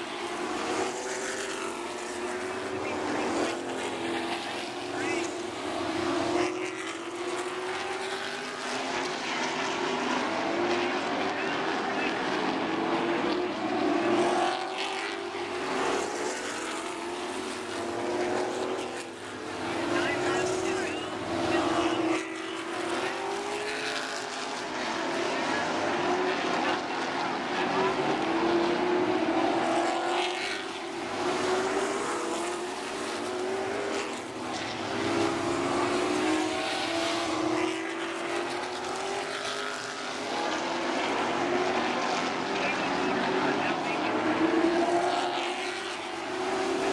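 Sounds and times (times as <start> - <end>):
race car engines droning: 0.0 - 46.9.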